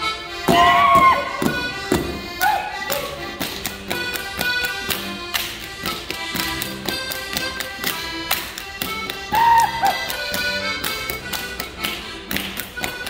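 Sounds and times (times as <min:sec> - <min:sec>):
accordion folk dance music: 0:00.0 - 0:13.0
dancers clapping and hitting: 0:00.4 - 0:13.0.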